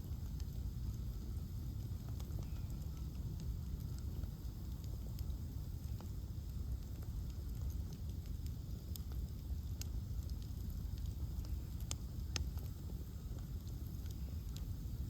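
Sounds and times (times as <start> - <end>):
bonfire crackling and popping: 0.0 - 15.0
low rumble of fire: 0.0 - 15.0.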